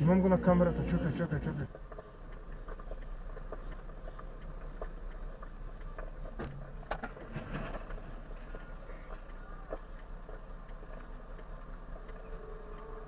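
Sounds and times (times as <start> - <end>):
car engine drone and road noise: 0.0 - 13.0.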